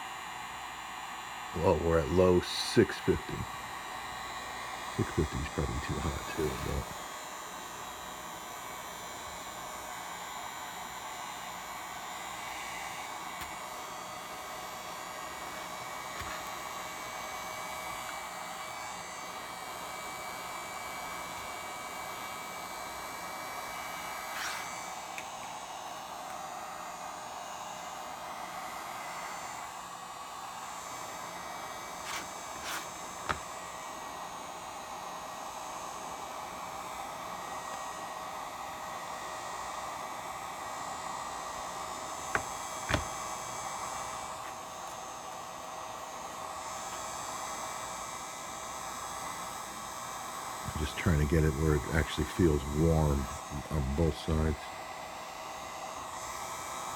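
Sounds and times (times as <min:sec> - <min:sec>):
hot-air tool blowing: 0:00.0 - 0:56.9.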